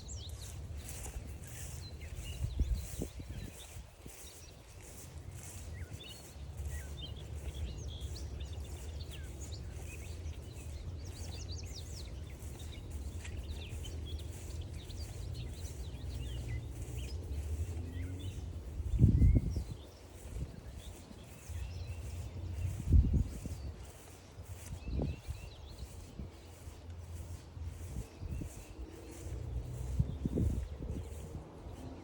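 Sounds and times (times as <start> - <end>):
songbirds chirping and singing: 0.0 - 32.0.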